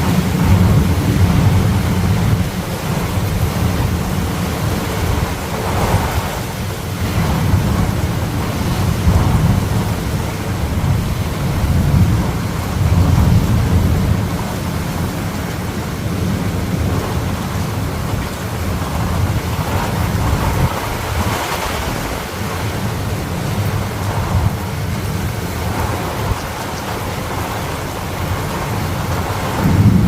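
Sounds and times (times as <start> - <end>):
rain hissing: 0.0 - 30.0
thunder rumbling: 0.0 - 30.0.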